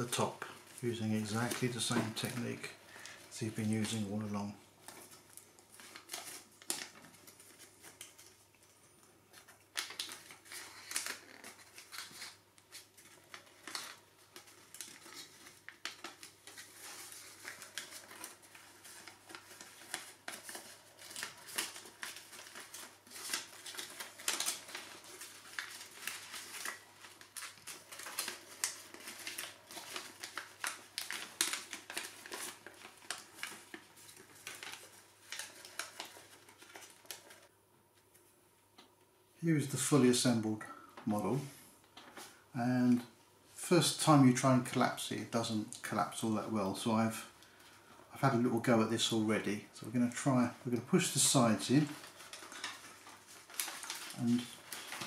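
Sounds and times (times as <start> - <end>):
crisp paper crackles: 0.0 - 38.3, 39.6 - 55.0
paper crinkling and rustling: 0.0 - 38.9, 43.7 - 55.0.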